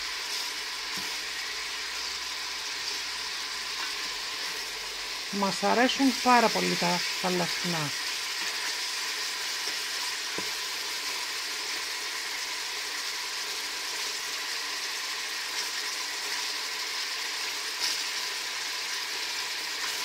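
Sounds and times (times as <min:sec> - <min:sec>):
seafood sizzling in hot oil: 0:00.0 - 0:20.0.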